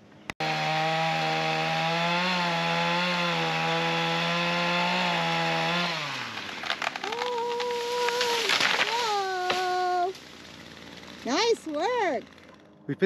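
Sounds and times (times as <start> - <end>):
electric chainsaw motor running: 0.4 - 12.8.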